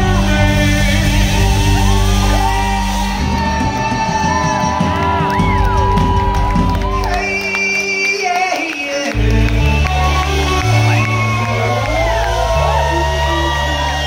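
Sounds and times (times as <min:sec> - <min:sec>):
live rock band: 0:00.0 - 0:14.0
shouted and sung vocals: 0:00.0 - 0:14.0.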